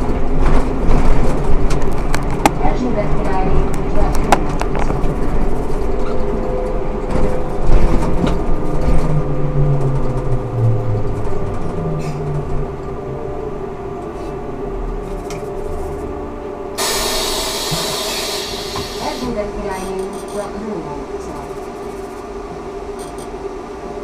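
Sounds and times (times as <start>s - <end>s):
low hum: 0.0s - 24.0s
trolleybus electric whine: 0.0s - 24.0s.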